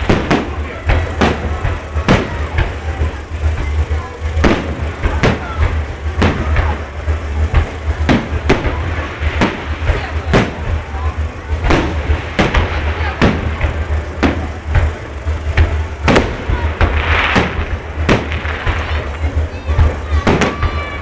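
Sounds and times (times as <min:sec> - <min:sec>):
fireworks bursting bangs: 0:00.0 - 0:21.0
low rumble: 0:00.0 - 0:21.0.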